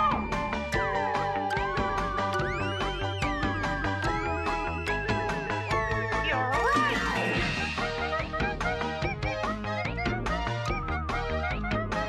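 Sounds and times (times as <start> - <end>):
plucked instrumental music: 0.0 - 12.0.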